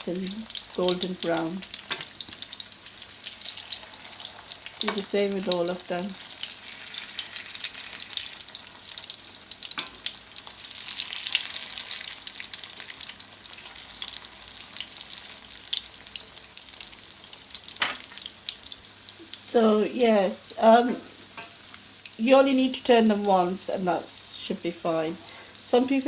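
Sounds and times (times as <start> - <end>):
cutlets sizzling in frying pan: 0.0 - 26.0.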